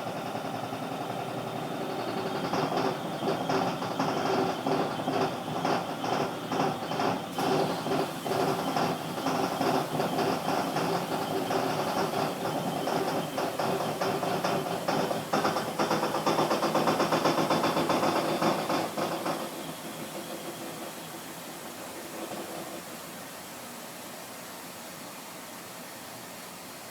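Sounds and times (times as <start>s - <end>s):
washing machine running: 0.0s - 26.9s.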